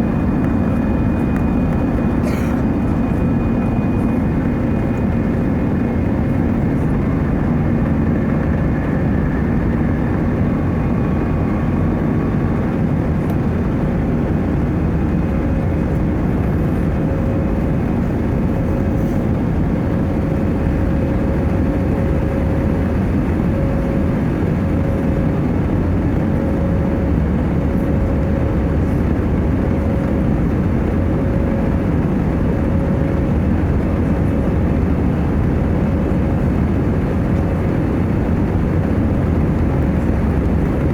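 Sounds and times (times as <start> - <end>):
jet engine roar in cabin: 0.0 - 40.9.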